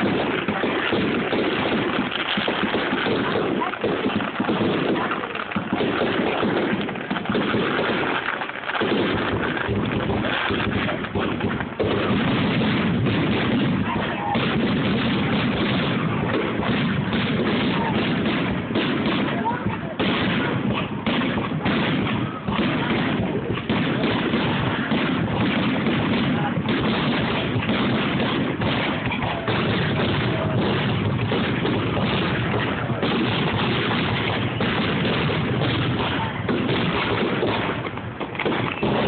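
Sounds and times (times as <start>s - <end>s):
fireworks booms and cracks: 0.0s - 39.0s.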